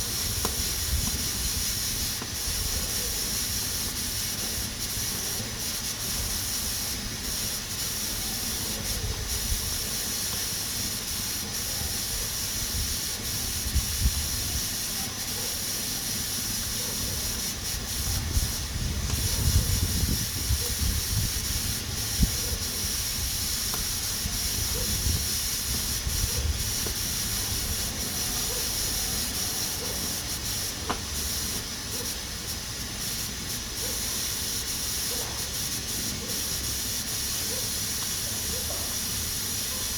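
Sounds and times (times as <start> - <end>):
pressure cooker steam hissing: 0.0 - 39.9.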